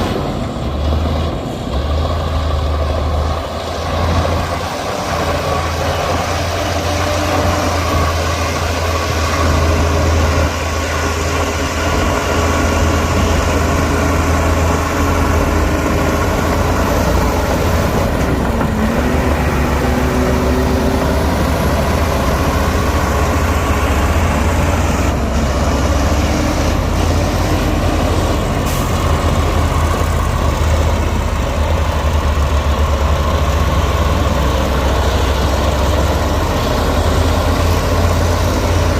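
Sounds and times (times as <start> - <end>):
diesel machinery engine rumble: 0.0 - 38.9.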